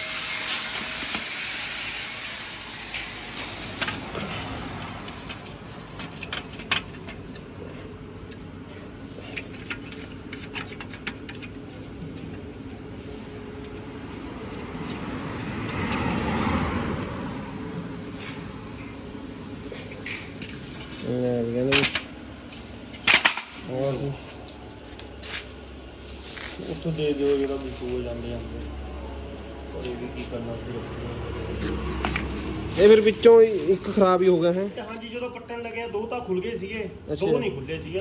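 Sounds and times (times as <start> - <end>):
engine hum: 1.8 - 38.0.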